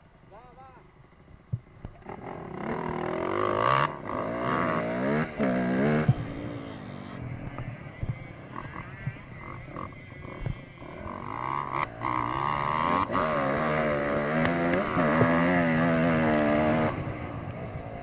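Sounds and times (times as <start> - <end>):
dirt bike engine revving: 1.9 - 18.0.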